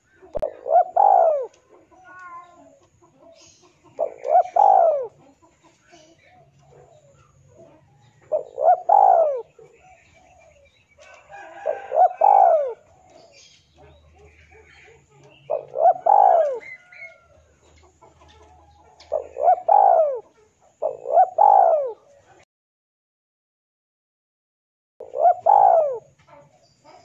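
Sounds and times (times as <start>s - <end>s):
dove cooing: 0.0s - 22.4s, 25.0s - 27.0s.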